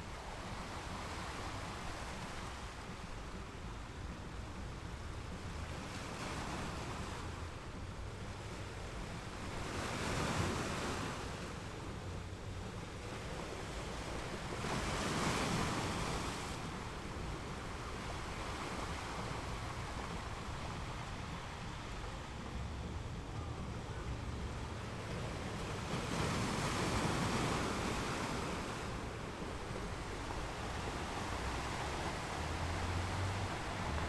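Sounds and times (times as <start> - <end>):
waves breaking on beach: 4.8 - 34.0.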